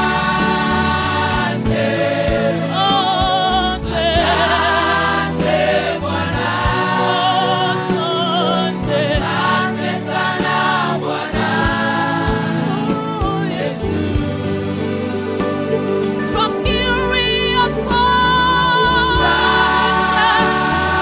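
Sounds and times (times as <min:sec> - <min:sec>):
backing music with steady beat: 0:00.0 - 0:21.0
gospel choir singing: 0:00.0 - 0:21.0.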